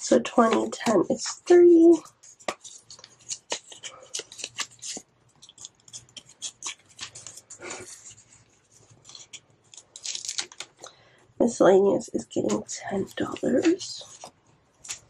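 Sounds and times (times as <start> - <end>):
banknotes rustling: 0.1 - 10.9, 12.2 - 15.0.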